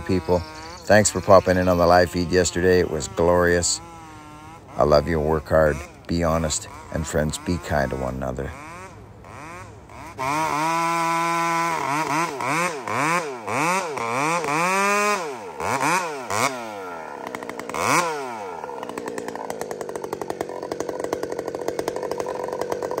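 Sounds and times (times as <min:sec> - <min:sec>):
chainsaw revving and idling: 0:00.0 - 0:23.0.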